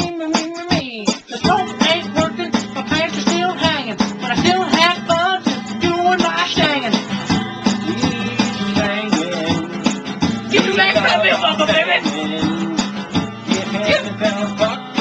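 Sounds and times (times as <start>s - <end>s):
person singing: 0.0s - 7.1s, 7.8s - 15.0s
acoustic guitar strumming: 0.0s - 15.0s.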